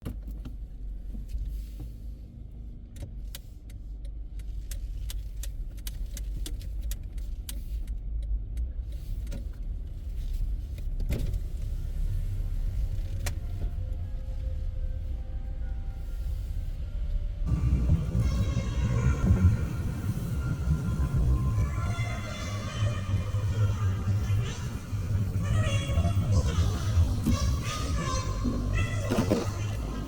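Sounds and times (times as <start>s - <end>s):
car engine and road rumble: 0.0s - 30.0s.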